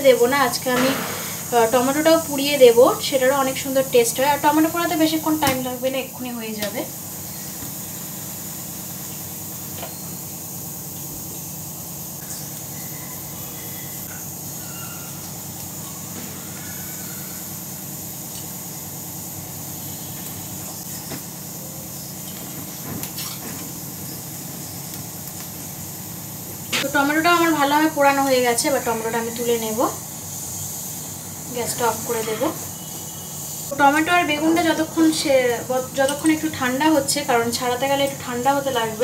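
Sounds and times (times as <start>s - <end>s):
gas burner flame hissing: 0.0s - 39.0s.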